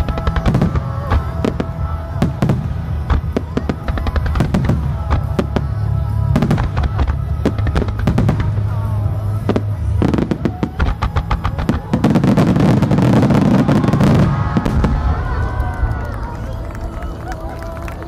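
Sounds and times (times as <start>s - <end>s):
fireworks bangs: 0.0s - 18.0s
music: 0.0s - 18.0s.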